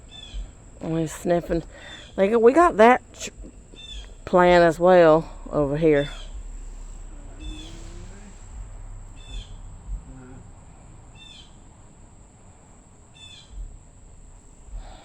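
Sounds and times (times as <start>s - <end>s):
bird chirping: 0.0s - 12.2s, 12.9s - 15.0s
faint low rumble: 0.0s - 15.0s
steady high-pitched tone: 0.0s - 15.0s.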